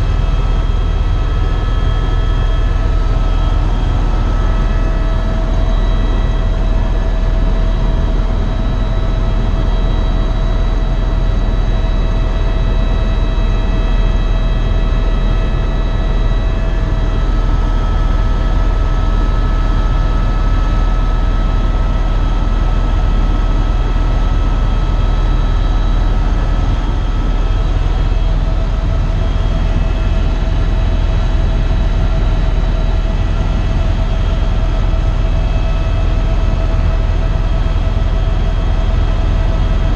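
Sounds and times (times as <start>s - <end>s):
helicopter rotor rumble: 0.0s - 39.9s
turbine whine: 0.0s - 39.9s.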